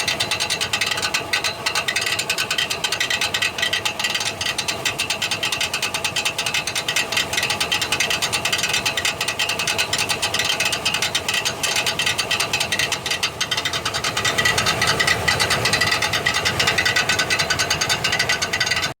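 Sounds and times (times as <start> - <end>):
starter motor metallic clatter: 0.0 - 19.0.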